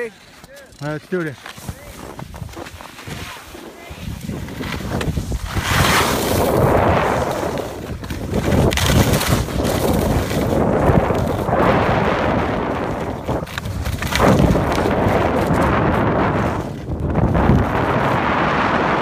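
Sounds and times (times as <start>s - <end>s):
skis sliding on snow: 0.0s - 19.0s
wind buffeting microphone: 1.7s - 19.0s.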